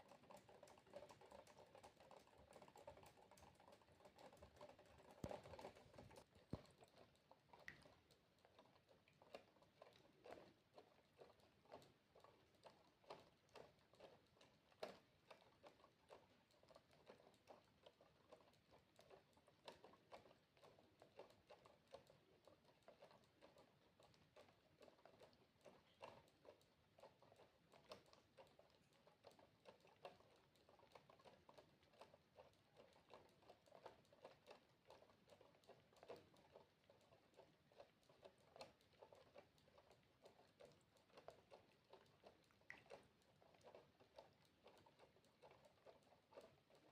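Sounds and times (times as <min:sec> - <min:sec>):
faint water dripping: 0:00.0 - 0:46.9.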